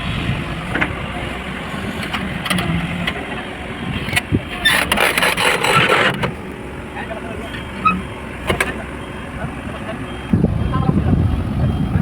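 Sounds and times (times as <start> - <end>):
construction machinery engine running: 0.0 - 12.0.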